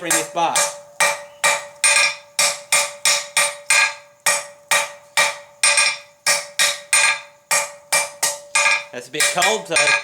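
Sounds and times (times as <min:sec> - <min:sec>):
anvil ringing: 0:00.0 - 0:10.0
hammer striking steel on anvil: 0:00.0 - 0:10.0.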